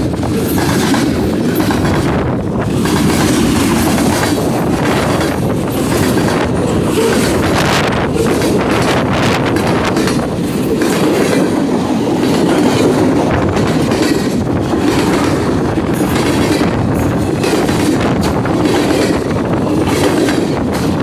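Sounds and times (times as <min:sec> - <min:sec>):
train wheels rumbling on rails: 0:00.0 - 0:21.0
wheels clacking over rail joints: 0:00.0 - 0:21.0.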